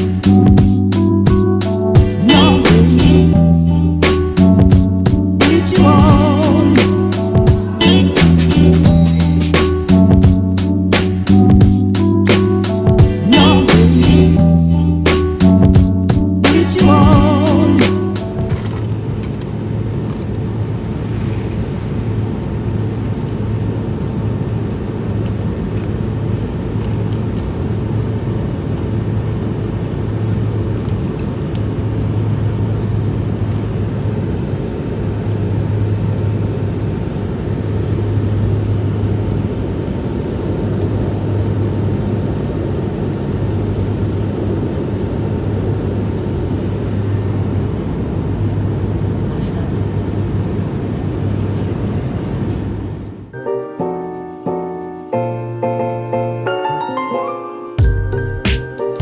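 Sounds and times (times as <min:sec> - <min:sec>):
low hum: 0:00.0 - 0:53.4
airliner engines droning: 0:00.0 - 0:57.0.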